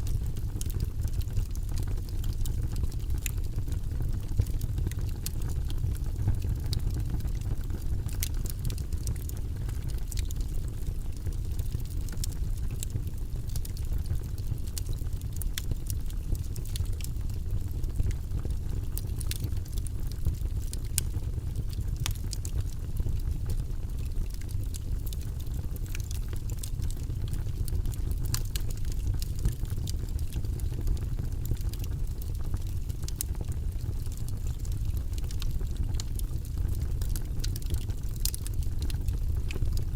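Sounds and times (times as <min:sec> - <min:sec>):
crackles and pops of burning logs: 0:00.0 - 0:39.9
low rumble of flames: 0:00.0 - 0:39.9.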